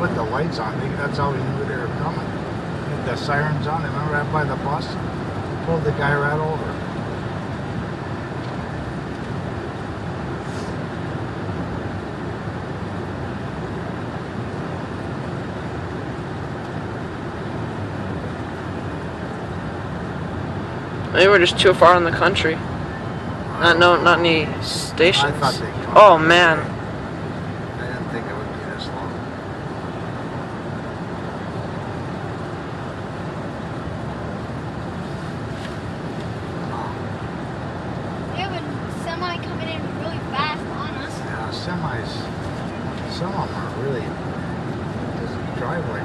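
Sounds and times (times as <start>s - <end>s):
car engine drone: 0.0s - 46.0s.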